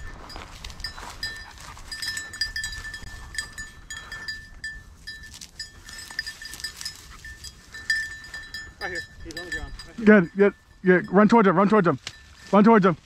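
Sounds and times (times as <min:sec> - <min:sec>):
dog collar bell jingling: 0:00.0 - 0:12.9.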